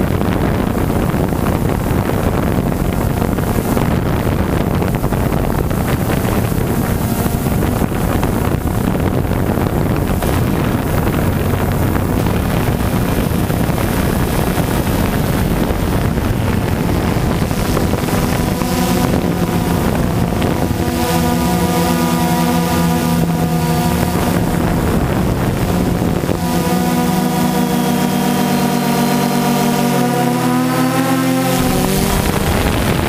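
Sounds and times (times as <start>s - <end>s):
drone propellers buzzing: 0.0s - 33.0s
motor whine: 0.0s - 33.0s
wind on microphone: 0.0s - 33.0s.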